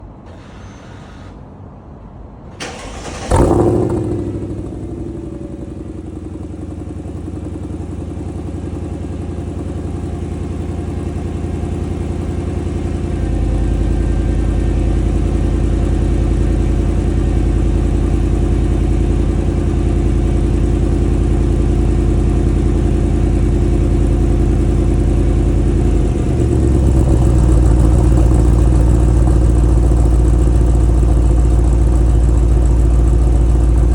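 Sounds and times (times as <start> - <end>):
car engine starting and idling: 2.4 - 33.9.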